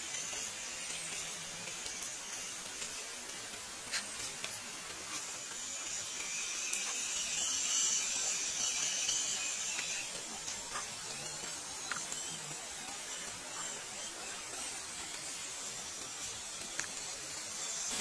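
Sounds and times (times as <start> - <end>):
toy truck electric motor whining: 0.0 - 18.0.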